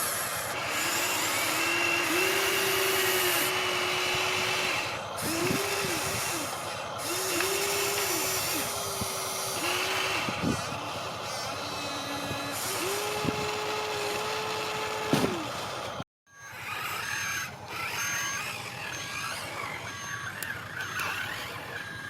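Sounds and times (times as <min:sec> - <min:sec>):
electric motors whining: 0:00.0 - 0:22.0.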